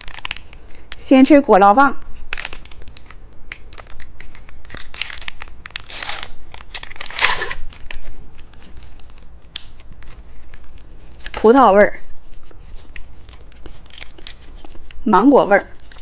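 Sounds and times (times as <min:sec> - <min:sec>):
plastic packaging crinkling and tearing: 0:00.0 - 0:01.0, 0:02.1 - 0:16.0.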